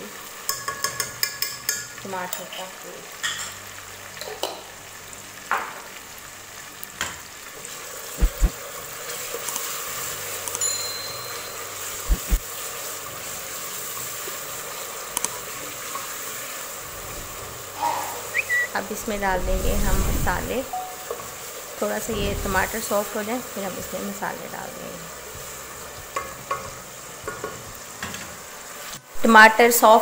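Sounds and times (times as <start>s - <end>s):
tomato sizzling in hot oil: 0.0s - 29.9s.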